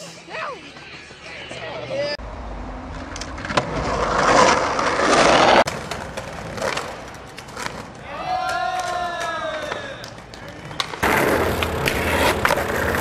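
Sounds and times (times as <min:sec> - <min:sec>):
wheels rolling on pavement: 0:00.6 - 0:09.1, 0:09.7 - 0:13.0.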